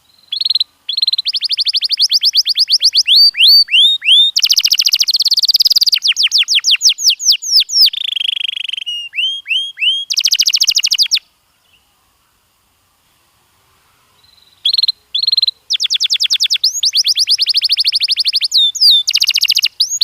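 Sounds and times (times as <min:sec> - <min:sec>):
canary singing: 0:00.2 - 0:11.8, 0:14.2 - 0:20.0.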